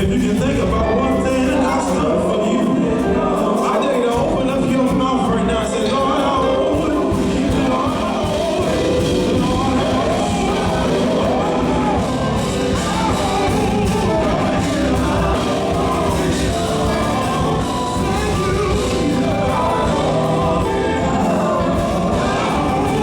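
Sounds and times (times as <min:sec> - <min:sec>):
gospel group singing: 0:00.0 - 0:23.0
instrumental accompaniment: 0:00.0 - 0:23.0.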